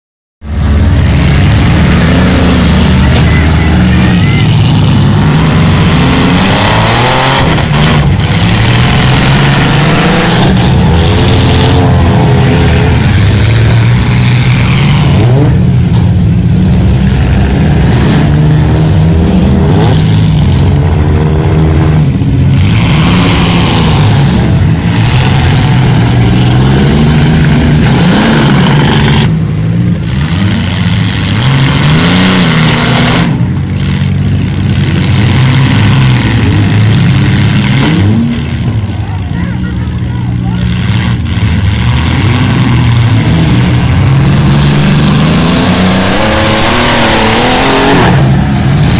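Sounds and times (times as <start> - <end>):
car engines revving hard: 0.4 - 48.9.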